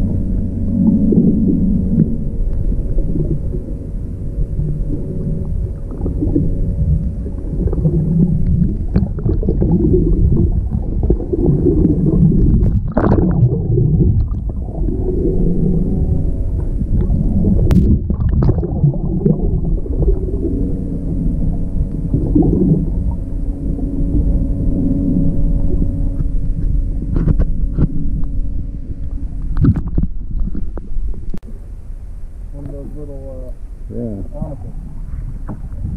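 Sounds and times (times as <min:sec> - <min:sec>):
faint steady hum: 0:00.0 - 0:35.9
muffled underwater water rumble: 0:00.0 - 0:35.9.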